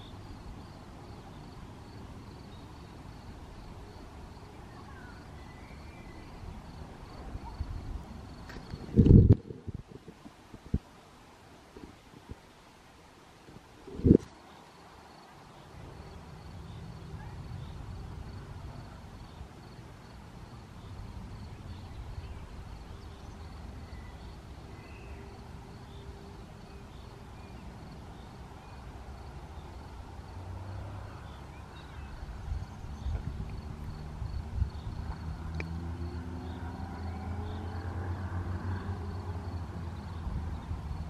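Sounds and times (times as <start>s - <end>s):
cricket chirping: 0.0s - 9.2s, 14.0s - 41.0s.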